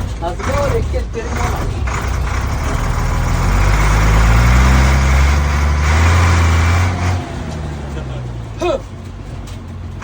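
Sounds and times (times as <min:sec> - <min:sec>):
truck diesel engine pulling: 0:00.0 - 0:10.0.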